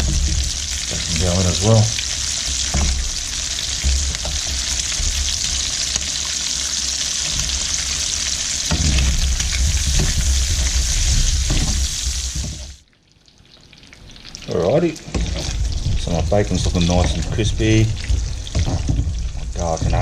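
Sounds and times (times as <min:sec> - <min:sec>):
food sizzling in a frying pan: 0:00.0 - 0:12.8, 0:13.9 - 0:20.0
wooden spoon stirring and scraping: 0:00.0 - 0:12.8, 0:15.0 - 0:20.0.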